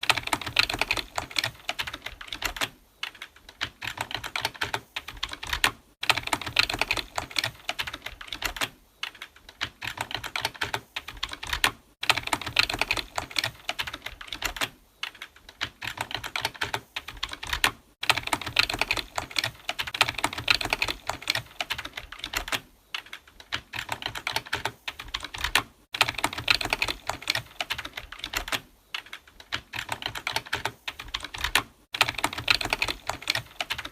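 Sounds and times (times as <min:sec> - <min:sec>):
fast typing on computer keyboard: 0:00.0 - 0:33.9.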